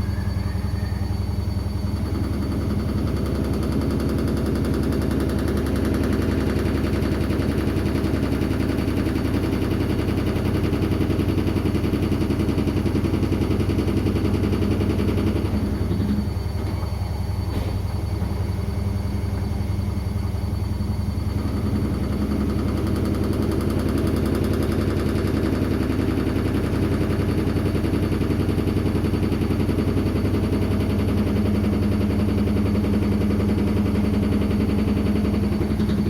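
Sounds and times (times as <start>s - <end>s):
washing machine spin rattle: 0.0s - 36.0s.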